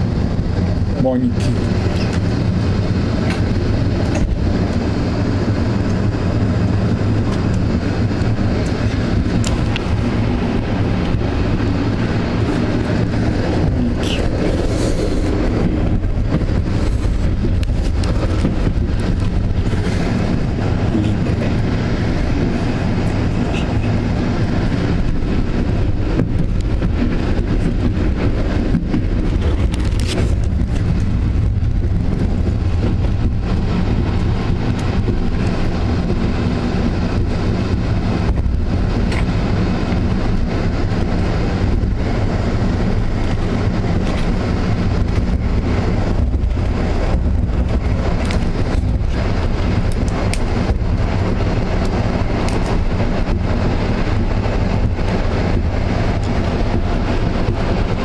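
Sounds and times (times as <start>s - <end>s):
train wheels rumbling on rails: 0.0s - 58.0s
wind rushing through window: 0.0s - 58.0s.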